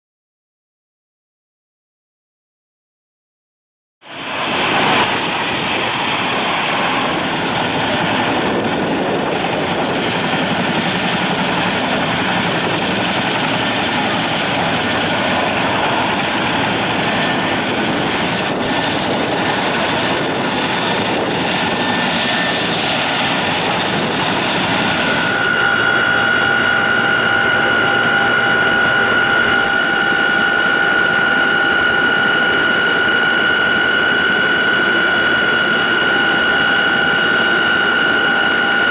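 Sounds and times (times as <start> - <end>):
helicopter engines and rotors: 4.0 - 38.9
high whine in cabin: 4.1 - 38.9.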